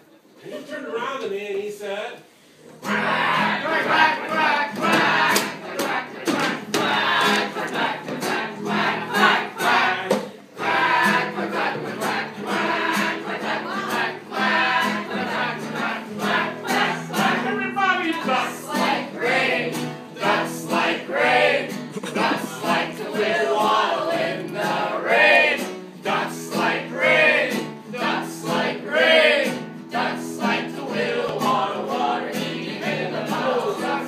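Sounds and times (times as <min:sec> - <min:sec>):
group singing over a beat: 0:02.8 - 0:34.0.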